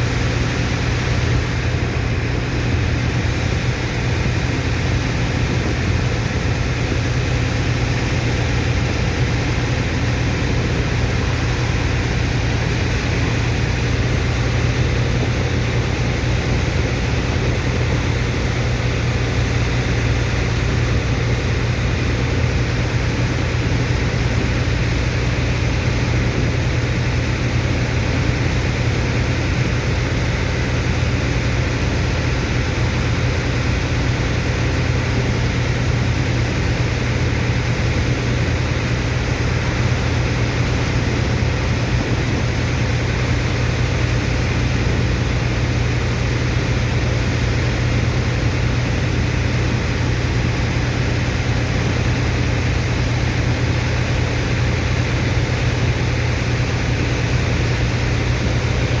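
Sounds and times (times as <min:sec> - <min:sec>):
diesel engine and pump drone: 0:00.0 - 0:59.0.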